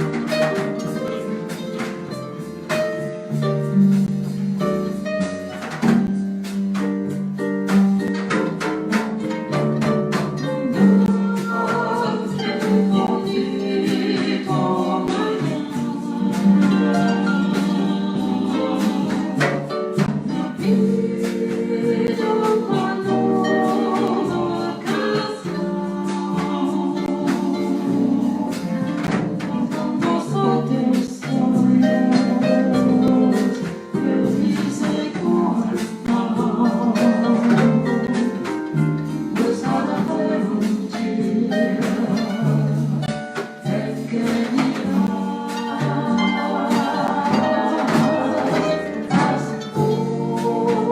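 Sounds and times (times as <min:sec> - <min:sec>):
jazz band with harp: 0:00.0 - 0:50.9.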